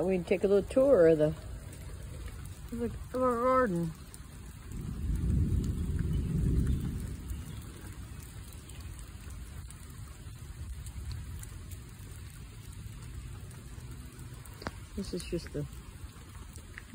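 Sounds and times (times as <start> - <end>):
rain falling: 0.0 - 16.9.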